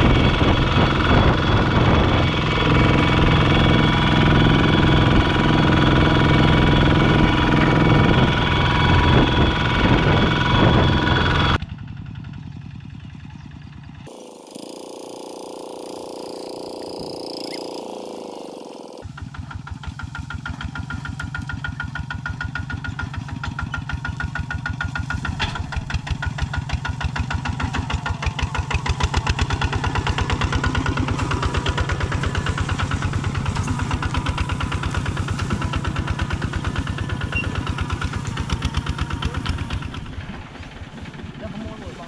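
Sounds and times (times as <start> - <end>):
walking tractor diesel engine chugging: 0.0 - 42.0.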